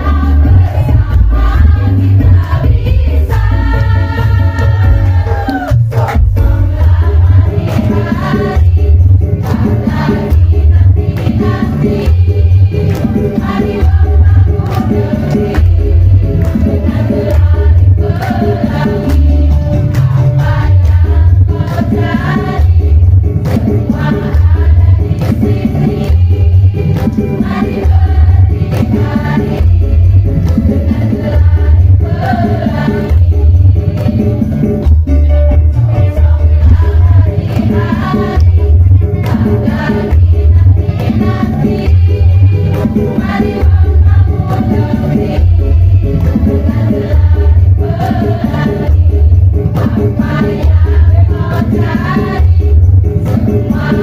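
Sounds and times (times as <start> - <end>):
electronic keyboard: 0.0 - 54.0
percussion beat: 0.0 - 54.0
women's choir singing in unison: 0.0 - 54.0.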